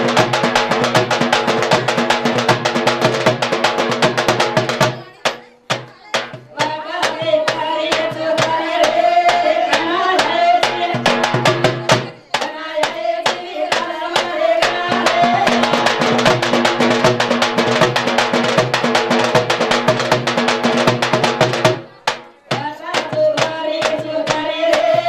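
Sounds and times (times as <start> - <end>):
women singing: 0.0 - 17.1, 21.4 - 25.0
drum beat: 0.0 - 25.0.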